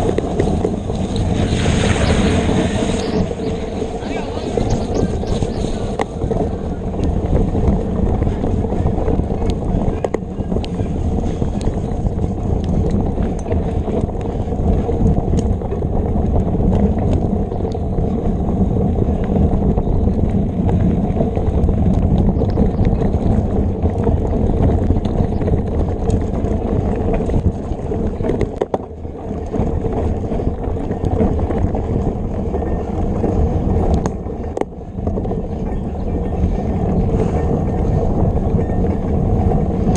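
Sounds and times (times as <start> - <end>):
bike clicks and knocks: 0.0 - 2.0, 4.6 - 39.9
bike tyres rolling on dirt: 0.0 - 39.9
wind on microphone: 0.0 - 39.9.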